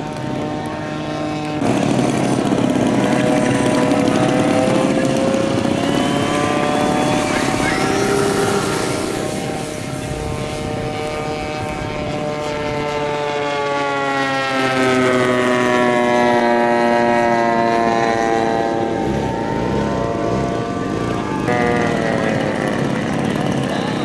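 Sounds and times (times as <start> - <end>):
model airplane engine flying past: 0.0 - 24.0.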